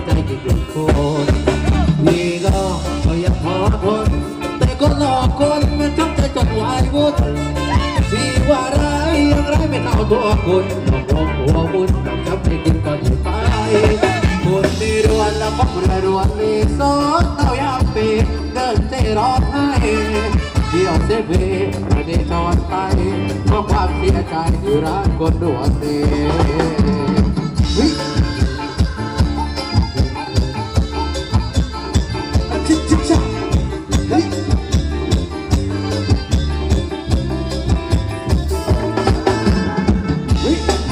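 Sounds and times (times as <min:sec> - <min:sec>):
driving percussion beat: 0:00.0 - 0:40.9
live band dance music: 0:00.0 - 0:40.9.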